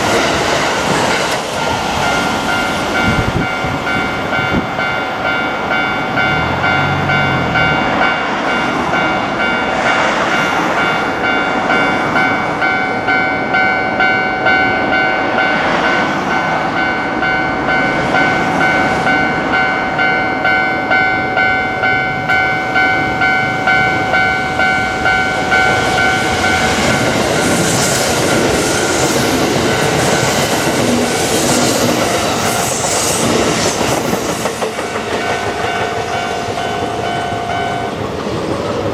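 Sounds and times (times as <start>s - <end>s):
train wheels clattering on rails: 0.0s - 38.9s
level-crossing bell clanging: 1.9s - 38.2s.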